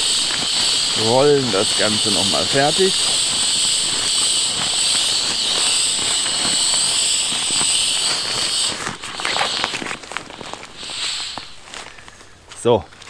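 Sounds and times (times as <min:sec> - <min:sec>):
air hissing out of a valve: 0:00.0 - 0:12.5.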